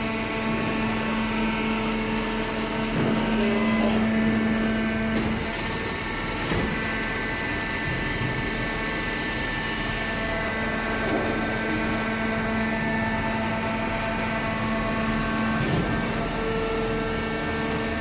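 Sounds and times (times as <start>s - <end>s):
baler machine humming: 0.0s - 18.0s.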